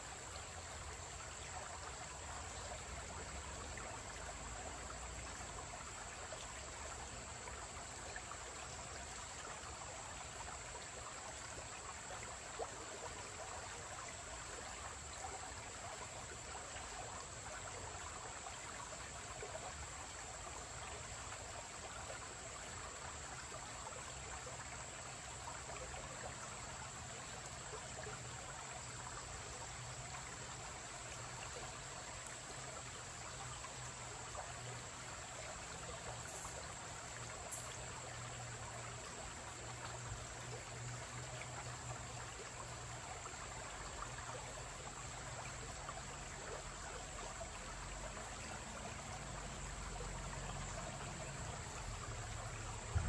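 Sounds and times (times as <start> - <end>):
creek trickling over rocks: 0.0 - 53.0.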